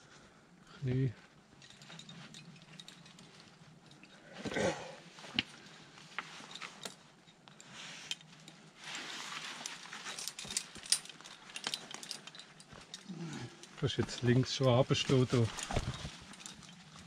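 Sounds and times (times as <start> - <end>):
metal climbing gear clinking: 0.6 - 17.0
rustling noise: 1.6 - 17.0.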